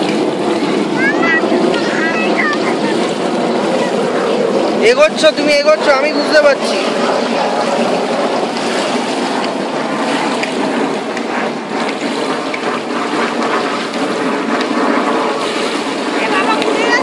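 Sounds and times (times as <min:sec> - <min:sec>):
swimmer kicking: 0:00.0 - 0:17.0
water splashing in pool: 0:00.0 - 0:17.0.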